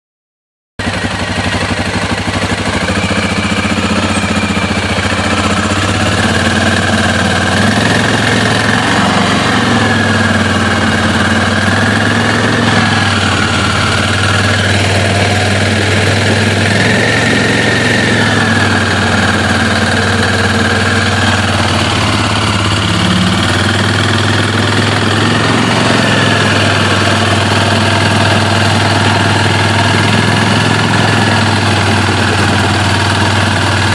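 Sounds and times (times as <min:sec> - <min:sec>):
atv engine idling: 0:00.8 - 0:33.9.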